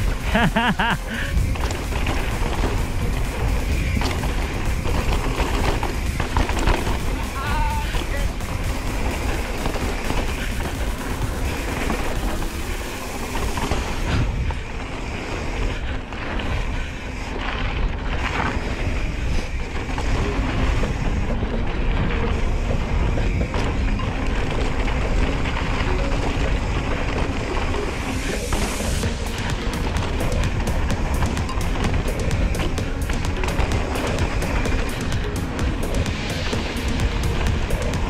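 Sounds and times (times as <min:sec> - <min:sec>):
bike rattling over bumps: 0:00.0 - 0:38.0
wind rushing over microphone: 0:00.0 - 0:38.0.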